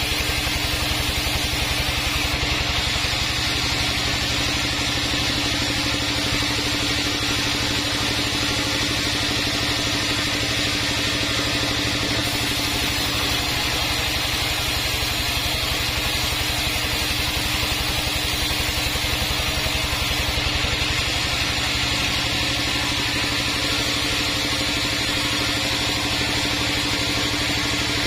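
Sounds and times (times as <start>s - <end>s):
band saw running: 0.0s - 28.0s.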